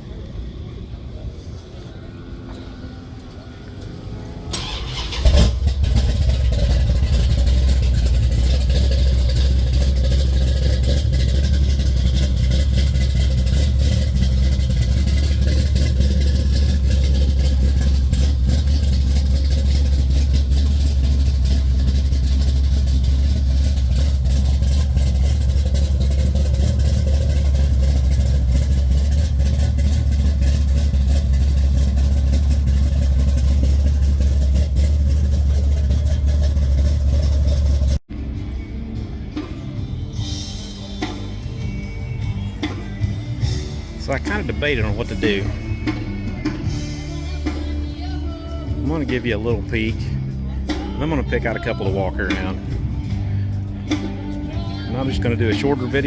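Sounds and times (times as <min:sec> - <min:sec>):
car engine idling: 0:00.0 - 0:56.0
car engine starting: 0:00.0 - 0:56.0.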